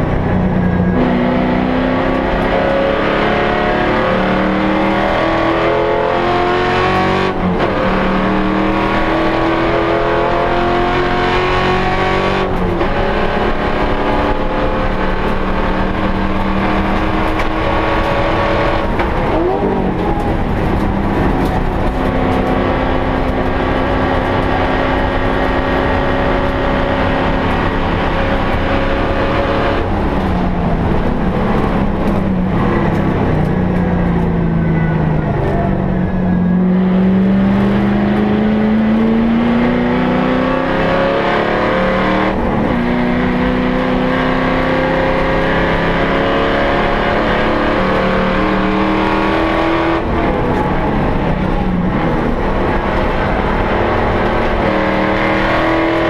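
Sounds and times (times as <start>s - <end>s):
race car engine: 0.0s - 56.0s
road and wind noise: 0.0s - 56.0s.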